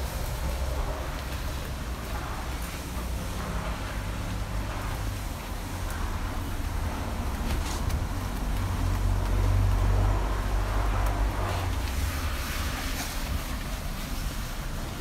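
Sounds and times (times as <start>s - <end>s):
wash mitt swishing on car paint: 0.0s - 15.0s.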